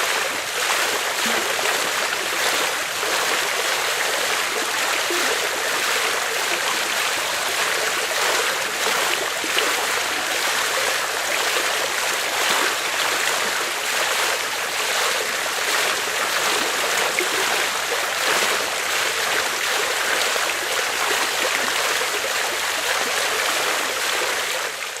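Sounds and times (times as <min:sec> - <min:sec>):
water fountain splashing: 0:00.0 - 0:25.0.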